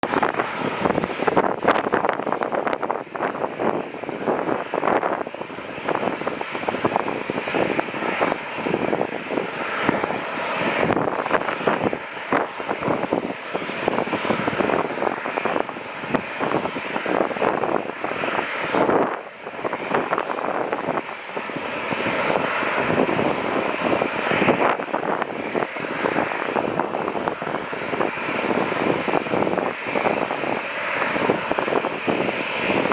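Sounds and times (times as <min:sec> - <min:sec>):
jet airliner passing: 0:00.0 - 0:32.9.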